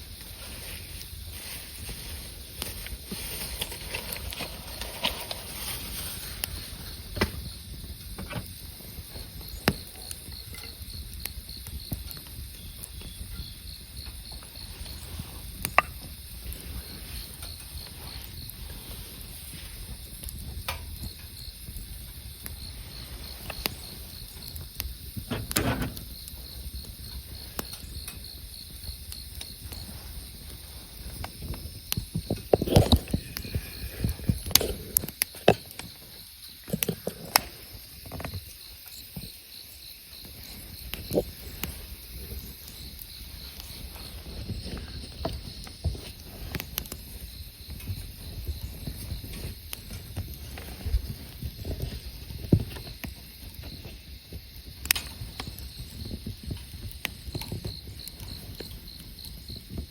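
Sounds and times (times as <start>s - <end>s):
campfire crackling and popping: 0.0s - 59.9s
insect chirping: 0.0s - 59.9s.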